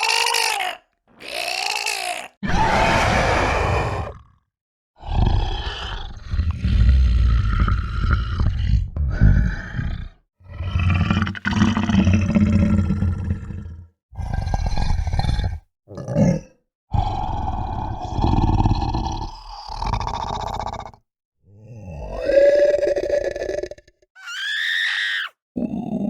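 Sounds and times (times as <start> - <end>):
monster guttural roars: 0.0 - 21.0, 21.6 - 26.0.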